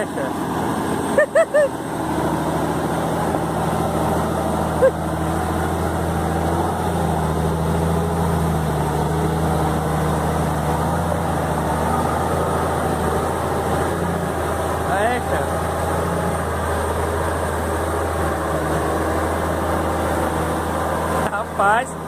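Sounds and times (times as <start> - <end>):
engine running under load: 0.0 - 22.0.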